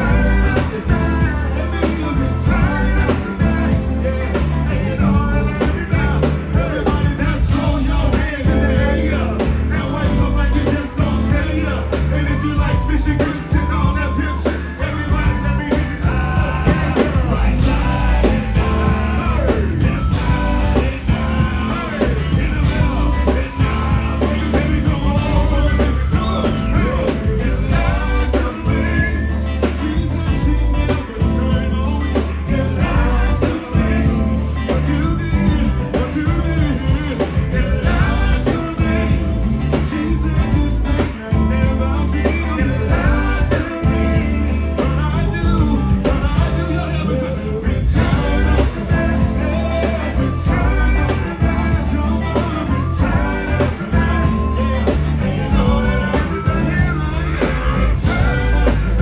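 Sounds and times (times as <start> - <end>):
live rock band playing: 0.0 - 59.0
men singing into microphones: 0.0 - 59.0.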